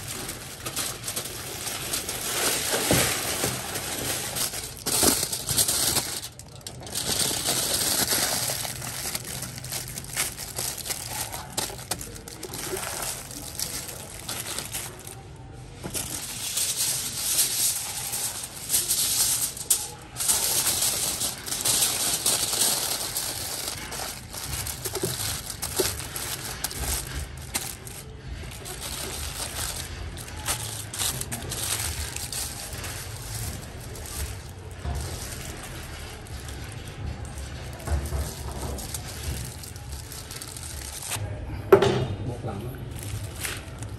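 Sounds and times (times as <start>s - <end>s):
aluminium foil crinkling: 0.0s - 41.2s, 42.9s - 43.9s.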